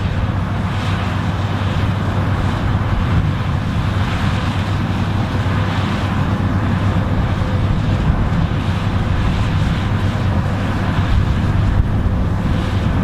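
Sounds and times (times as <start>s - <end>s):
constant rushing noise: 0.0s - 13.0s
harvest machinery engine drone: 0.0s - 13.0s.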